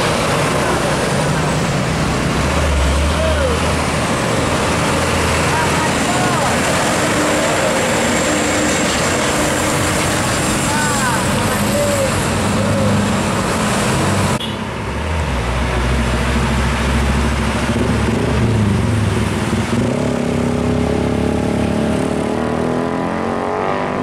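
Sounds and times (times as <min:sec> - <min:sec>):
diesel trucks passing: 0:00.0 - 0:24.0.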